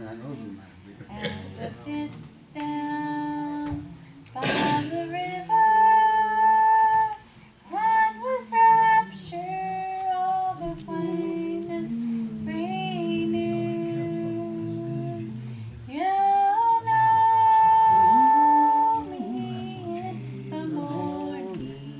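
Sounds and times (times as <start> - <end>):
faint guitar: 1.1 - 21.9
person singing gospel song: 1.1 - 21.9.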